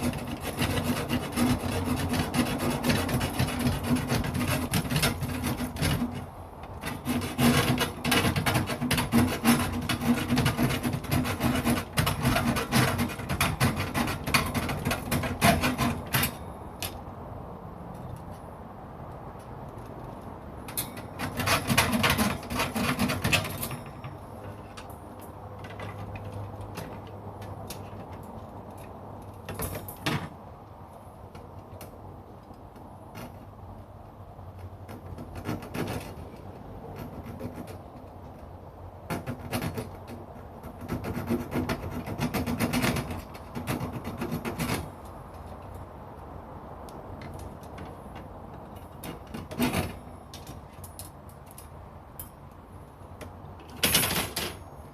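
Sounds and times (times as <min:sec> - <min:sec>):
scraping metal grill grate: 0:00.0 - 0:17.1, 0:19.6 - 0:54.9.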